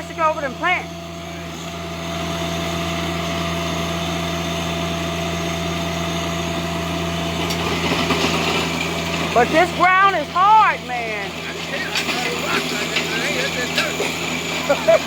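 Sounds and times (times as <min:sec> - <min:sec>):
tiller grinding through ground: 0:00.0 - 0:15.0
tractor engine running: 0:00.0 - 0:15.0.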